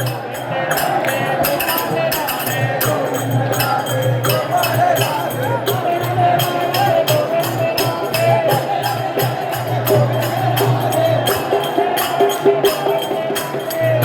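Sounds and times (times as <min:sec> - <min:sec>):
percussion beat: 0:00.0 - 0:14.0.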